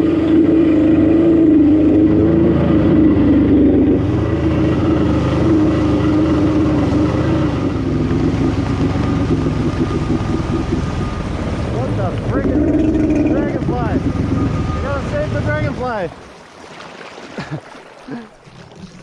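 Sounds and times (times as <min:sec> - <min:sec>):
jet ski engine running: 0:00.0 - 0:16.5.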